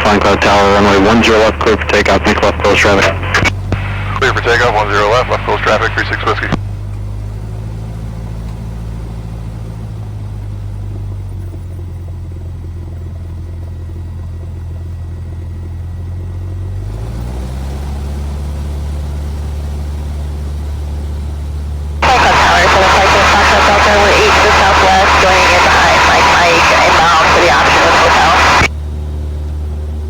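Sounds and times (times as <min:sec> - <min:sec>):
light aircraft engine running: 0:00.0 - 0:30.0.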